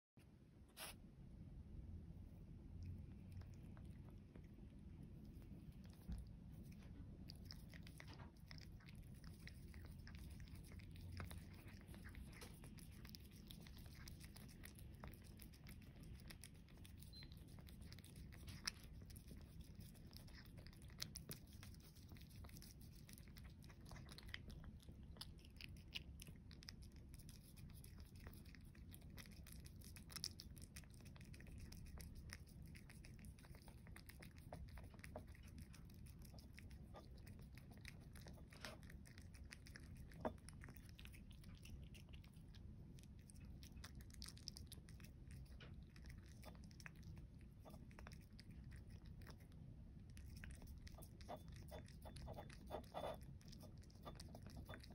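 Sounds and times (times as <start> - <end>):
cat chewing and licking: 0.8 - 54.9.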